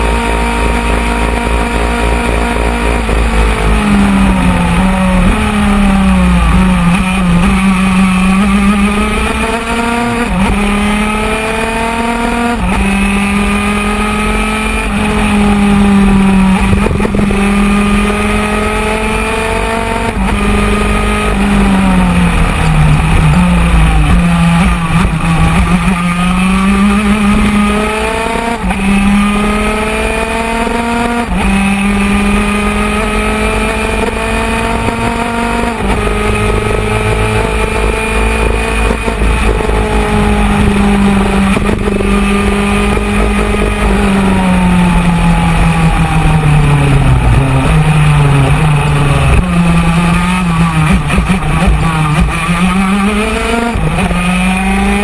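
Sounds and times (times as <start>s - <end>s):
two-stroke kart engine racing: 0.0s - 55.0s.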